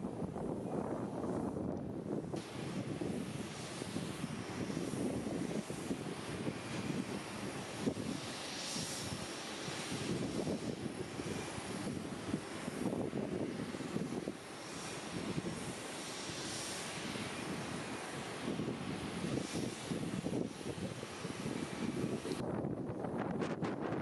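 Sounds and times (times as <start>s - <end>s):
jet engine rumble: 0.0s - 24.0s
wind buffeting microphone: 0.0s - 24.0s.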